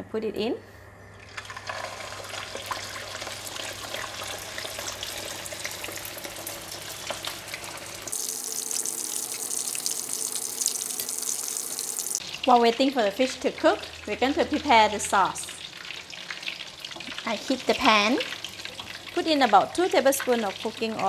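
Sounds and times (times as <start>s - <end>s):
fish deep-frying in oil: 1.3s - 21.0s.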